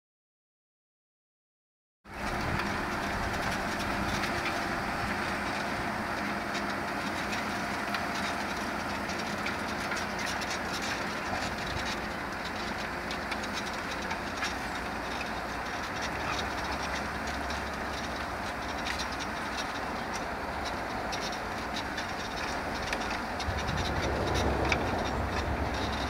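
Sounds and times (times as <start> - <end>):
faint plough clatter: 2.1 - 26.0
tractor engine under load: 2.1 - 26.0.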